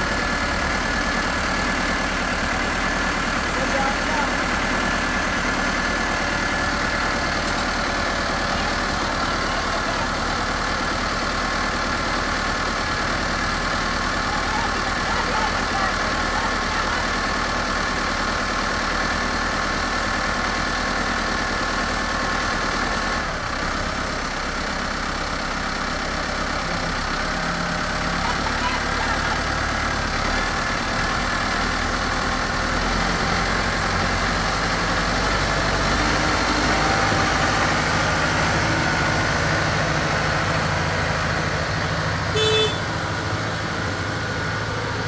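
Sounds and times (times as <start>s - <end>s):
engine running with hum: 0.0s - 45.0s.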